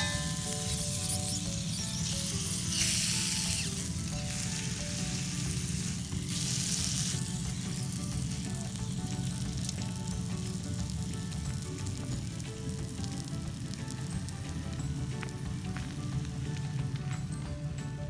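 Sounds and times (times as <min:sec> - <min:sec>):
food sizzling in a frying pan: 0:00.0 - 0:17.4.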